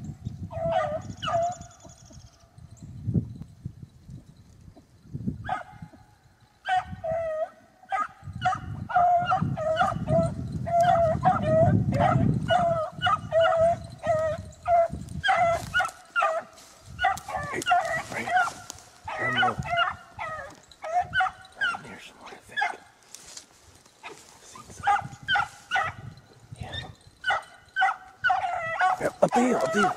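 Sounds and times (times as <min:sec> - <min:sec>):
hounds baying: 0:00.5 - 0:02.3, 0:05.5 - 0:29.9.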